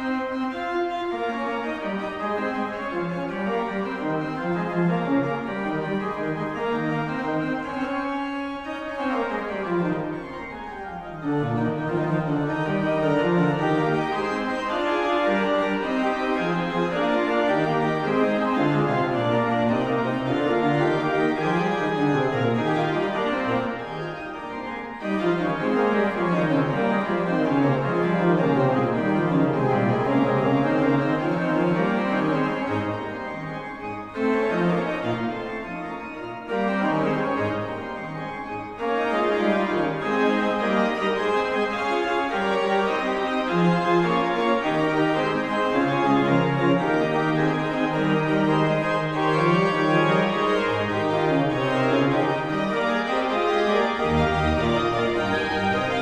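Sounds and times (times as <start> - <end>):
organ music: 0.0 - 56.0.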